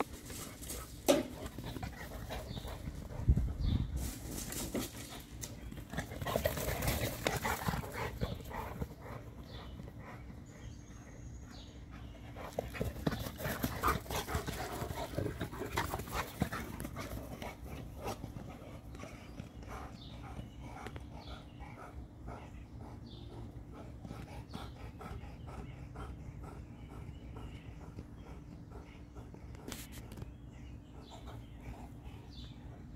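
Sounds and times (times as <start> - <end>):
dogs panting heavily: 0.0 - 32.9.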